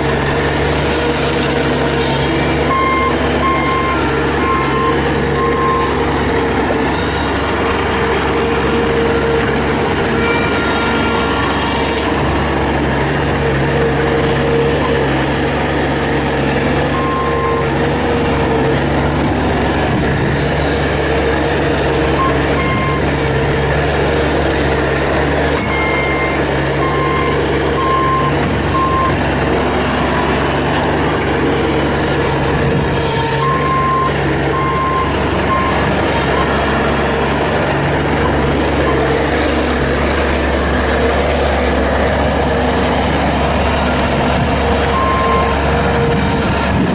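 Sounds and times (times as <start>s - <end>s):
loader diesel engine running: 0.0s - 46.9s.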